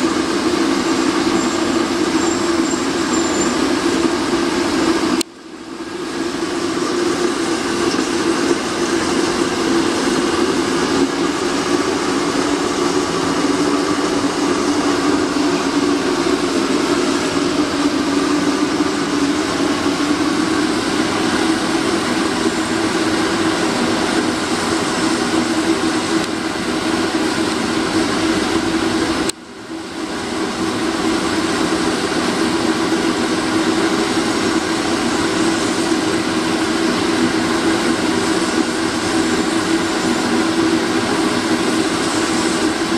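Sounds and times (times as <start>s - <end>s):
oil burner roaring: 0.0s - 42.9s.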